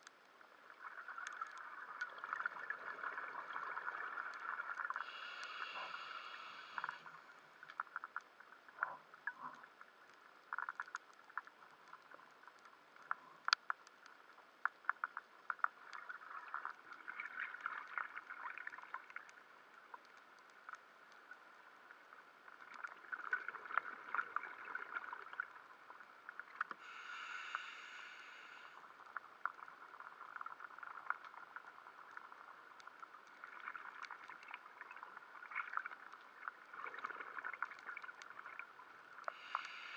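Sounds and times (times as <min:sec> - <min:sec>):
crackling clicks: 0:00.0 - 0:39.9
muffled underwater hiss: 0:00.0 - 0:39.9.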